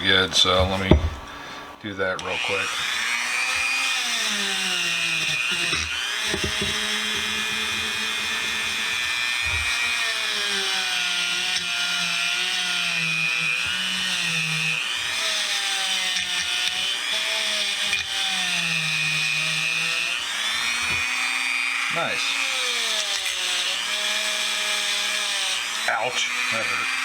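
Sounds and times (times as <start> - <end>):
power drill motor running: 0.0 - 27.0.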